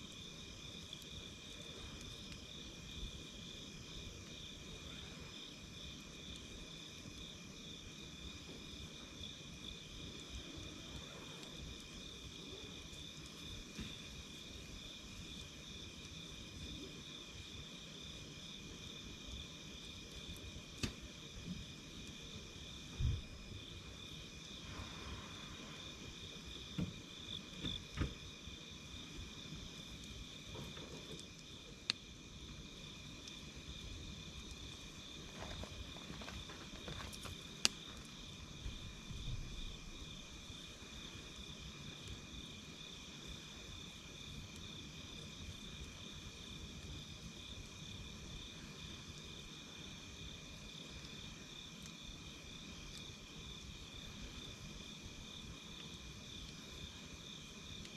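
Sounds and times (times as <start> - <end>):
high pulsing insect chirp: 0.0 - 30.7, 31.3 - 57.9
campfire popping and crackling: 0.0 - 57.9.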